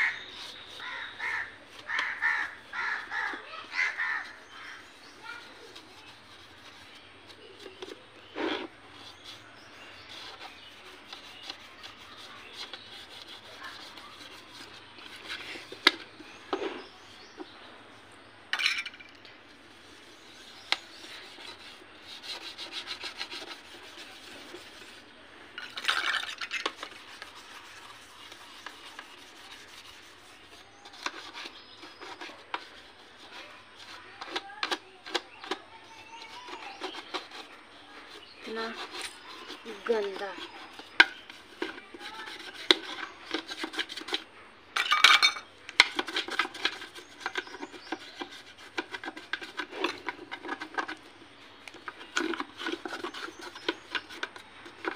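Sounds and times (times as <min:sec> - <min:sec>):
toothbrush scrubbing: 0:00.0 - 0:17.4, 0:19.6 - 0:44.3, 0:45.8 - 0:51.1, 0:51.7 - 0:54.9
metal tool scraping plastic: 0:00.0 - 0:17.6, 0:18.5 - 0:54.9.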